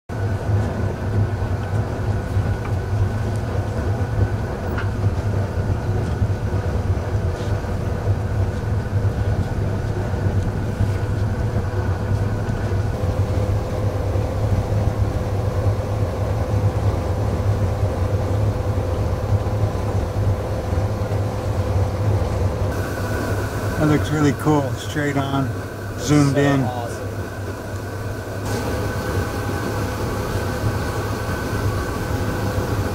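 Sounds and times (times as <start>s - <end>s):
boat low rumble with hiss: 0.1s - 32.9s.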